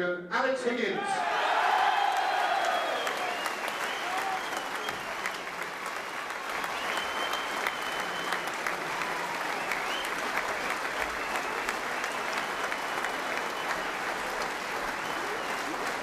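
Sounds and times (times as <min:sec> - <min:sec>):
large audience applauding: 0:01.2 - 0:16.0.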